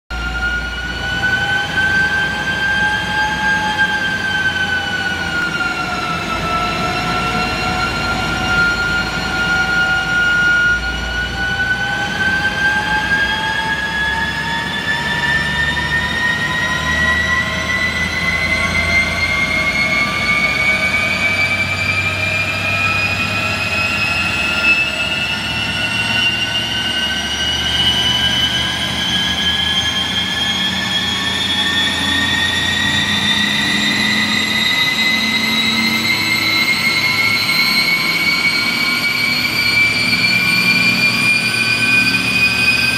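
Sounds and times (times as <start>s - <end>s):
high whine of tyres and rollers: 0.1s - 42.9s
low engine drone: 0.1s - 42.9s.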